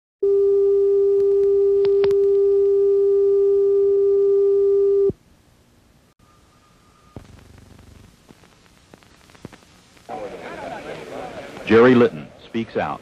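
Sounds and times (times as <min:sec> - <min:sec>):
faint tape hiss: 0:00.2 - 0:13.0.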